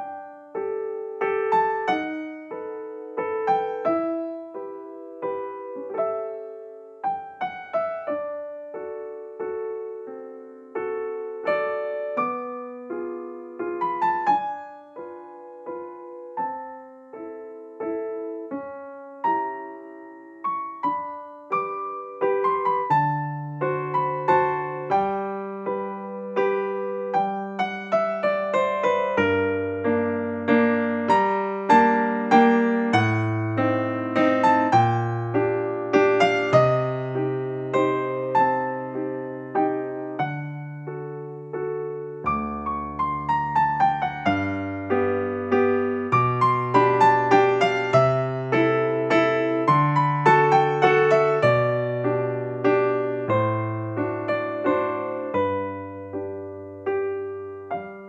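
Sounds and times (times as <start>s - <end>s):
gentle piano melody: 0.0s - 58.0s
piano bass notes: 0.0s - 58.0s.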